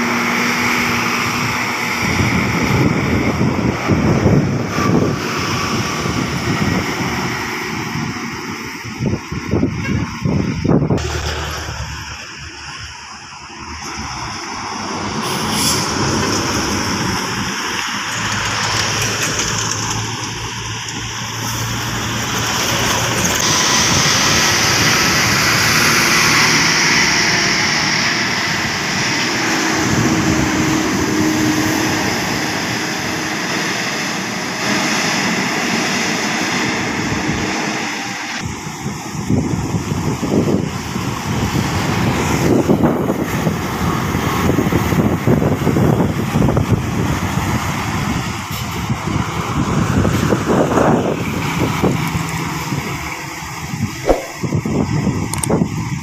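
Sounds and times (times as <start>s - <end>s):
buses driving past: 0.0s - 56.0s.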